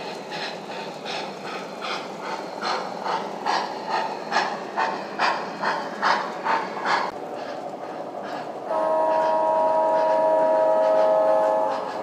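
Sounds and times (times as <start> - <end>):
model steam locomotive chuffing: 0.0 - 12.0
steady hum of model train: 0.0 - 12.0.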